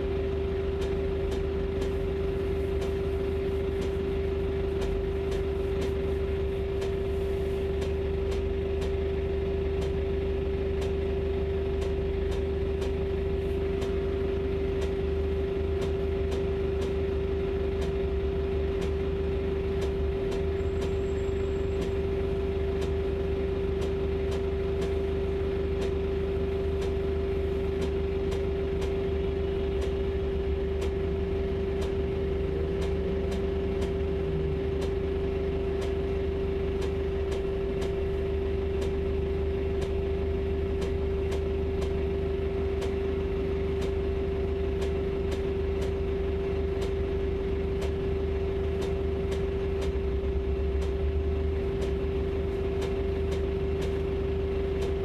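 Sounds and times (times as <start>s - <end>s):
bus cabin low drone: 0.0s - 55.0s
constant hum: 0.0s - 55.0s
light ticking: 0.3s - 7.1s, 10.7s - 11.1s, 11.7s - 13.1s, 13.7s - 39.1s, 39.7s - 42.1s, 42.8s - 46.1s, 46.7s - 55.0s.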